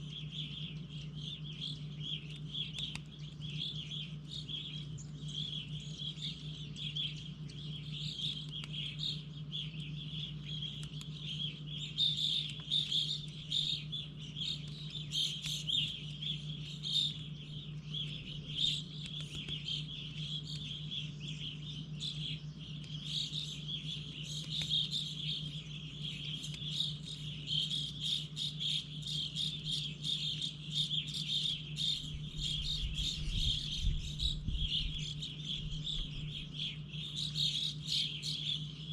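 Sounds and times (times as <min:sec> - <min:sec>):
songbirds chirping: 0:00.0 - 0:38.9
steady low hum: 0:00.0 - 0:38.9.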